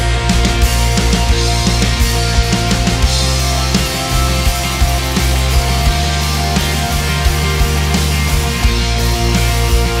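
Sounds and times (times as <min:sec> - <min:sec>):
drum kit beat: 0:00.0 - 0:10.0
live rock band playing: 0:00.0 - 0:10.0.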